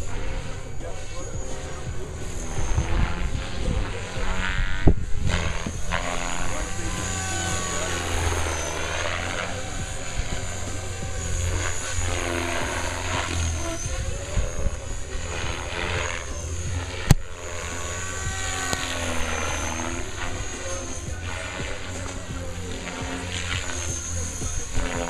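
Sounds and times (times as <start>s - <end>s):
drivetrain whining: 0.0s - 25.0s
model helicopter rotor whirring: 0.0s - 25.0s.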